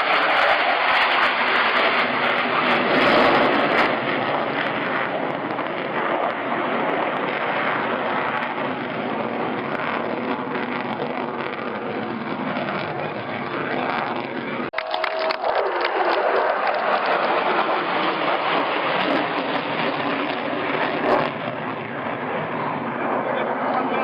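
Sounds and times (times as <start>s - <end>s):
jet fighters flying over: 0.0s - 24.0s.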